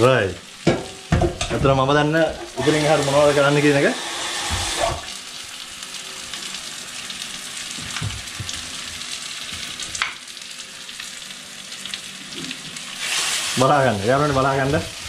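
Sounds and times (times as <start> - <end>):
curry sizzling in oil: 0.0 - 15.0.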